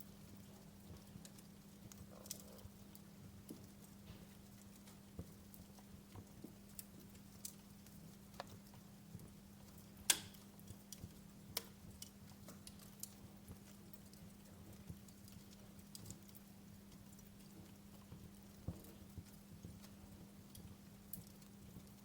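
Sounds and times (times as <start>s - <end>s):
faint low hum: 0.0s - 22.0s
wood fire crackling: 0.0s - 22.0s.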